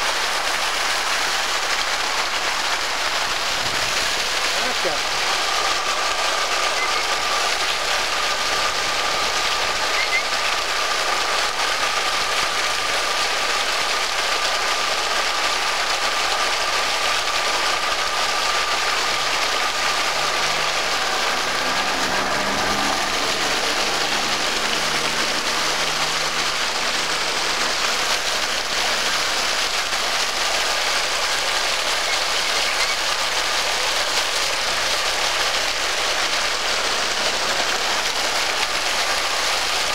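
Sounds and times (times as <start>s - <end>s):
fire hydrant water gushing: 0.0s - 39.9s.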